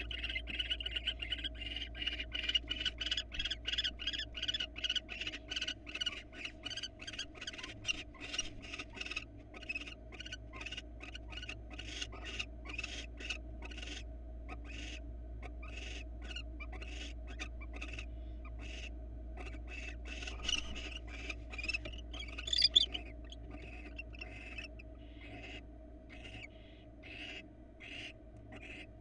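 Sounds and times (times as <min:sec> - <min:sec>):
barn owls hissing calls: 0:00.0 - 0:15.0, 0:15.6 - 0:29.0
low hum: 0:00.0 - 0:29.0.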